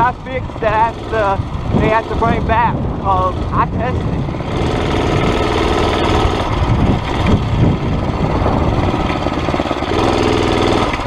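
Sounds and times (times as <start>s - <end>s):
mini bike engine running: 0.0s - 11.0s.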